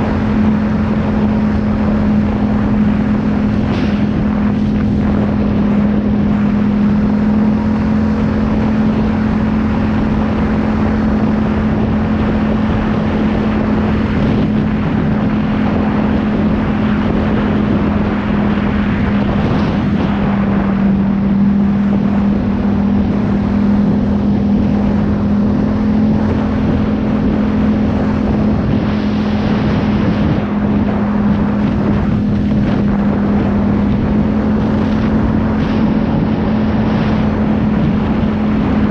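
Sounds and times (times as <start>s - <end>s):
vehicle engine droning: 0.0s - 38.9s
wind and travel noise: 0.0s - 38.9s.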